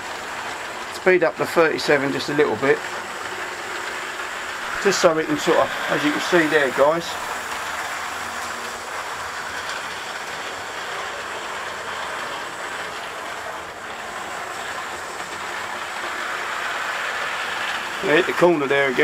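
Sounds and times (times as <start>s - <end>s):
model train running on rails: 0.0s - 19.0s.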